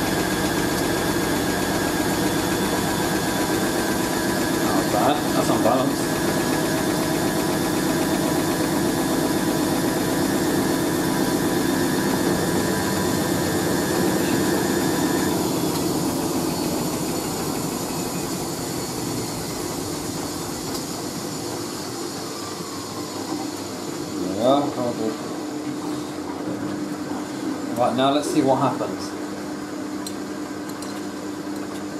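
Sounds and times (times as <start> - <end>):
washing machine motor and drum whir: 0.0 - 31.9.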